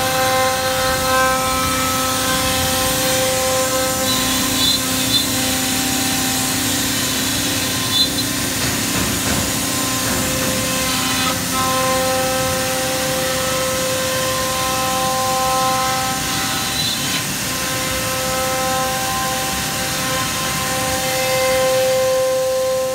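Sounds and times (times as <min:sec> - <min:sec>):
cnc router running: 0:00.0 - 0:22.9.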